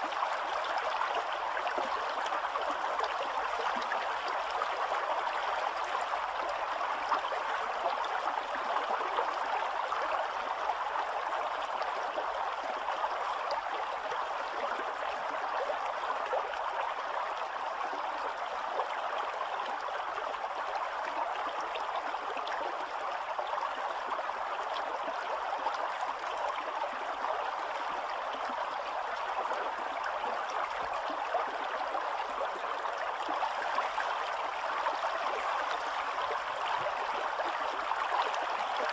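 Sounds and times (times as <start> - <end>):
stream rippling over stones: 0.0 - 38.9.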